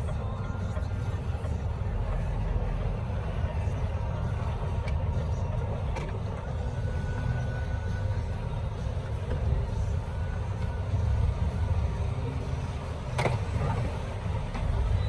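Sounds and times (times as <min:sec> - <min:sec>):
heavy truck rumbling: 0:00.0 - 0:15.0.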